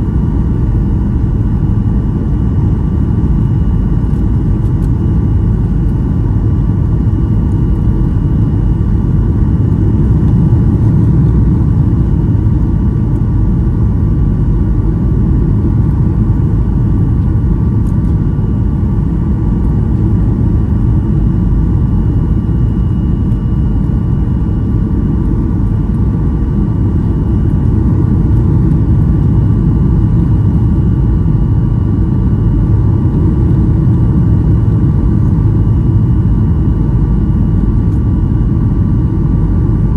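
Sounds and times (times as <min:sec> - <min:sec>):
airplane cabin engine roar: 0:00.0 - 0:39.9.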